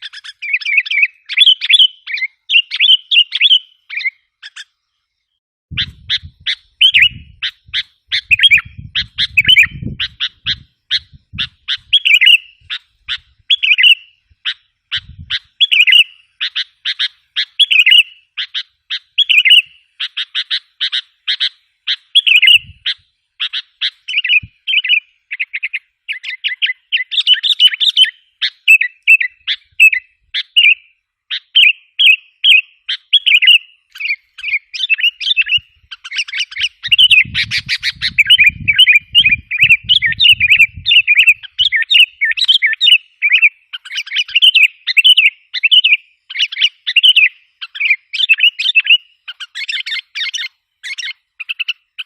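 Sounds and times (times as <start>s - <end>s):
bulbul chirping calls: 0.0s - 4.8s, 5.7s - 52.0s.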